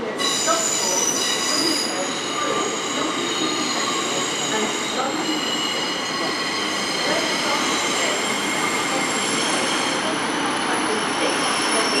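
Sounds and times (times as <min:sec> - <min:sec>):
train wheel squeal: 0:00.0 - 0:12.0.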